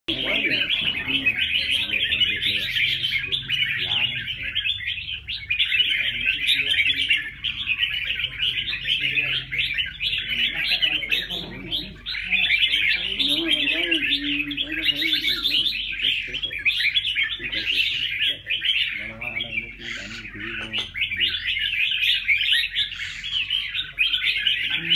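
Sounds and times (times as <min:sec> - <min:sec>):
songbirds chirping and twittering: 0:00.1 - 0:24.9.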